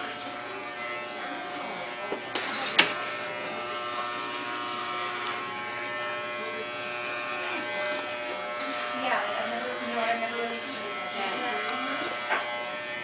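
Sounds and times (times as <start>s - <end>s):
electric hair clippers running: 0.0s - 13.0s.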